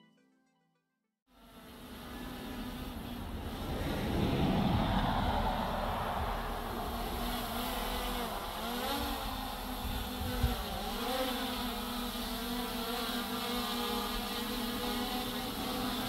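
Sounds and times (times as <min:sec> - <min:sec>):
drone propellers whining: 0:01.4 - 0:16.0.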